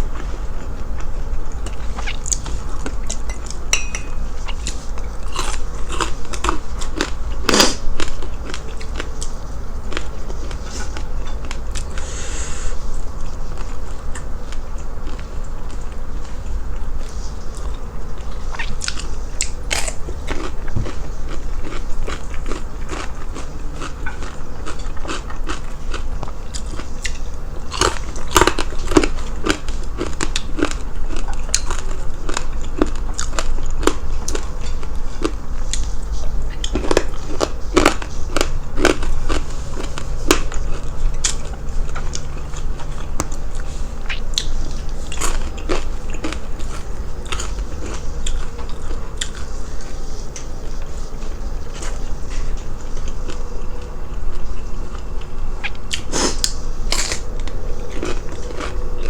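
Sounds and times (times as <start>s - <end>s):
crunchy chewing of fried pork: 0.0s - 59.0s.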